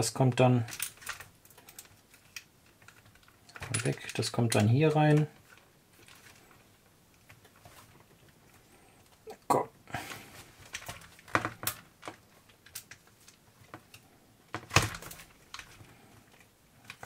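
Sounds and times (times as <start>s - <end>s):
plastic parts clicking and knocking: 0.0s - 8.4s, 10.6s - 17.0s.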